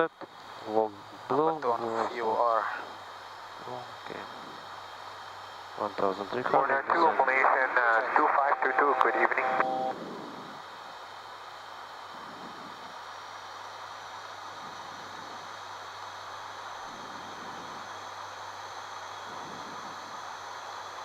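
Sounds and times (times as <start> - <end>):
low steady hum: 0.0 - 20.7
airliner cockpit engine hiss: 0.0 - 21.0
faint high whines: 0.0 - 21.0.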